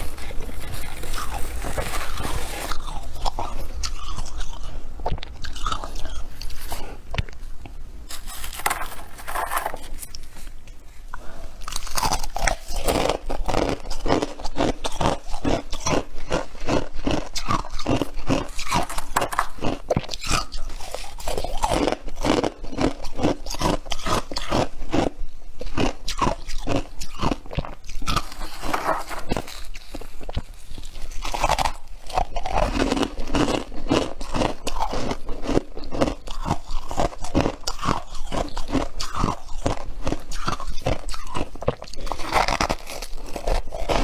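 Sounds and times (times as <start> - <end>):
squeaky crunching of chewed frost: 0.0 - 7.4, 8.1 - 10.5, 11.6 - 44.0.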